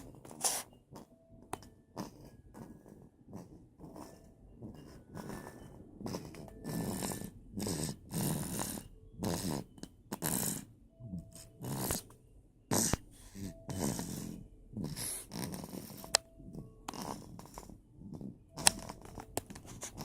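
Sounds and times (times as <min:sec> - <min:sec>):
snoring: 0:01.9 - 0:12.1, 0:12.7 - 0:18.6.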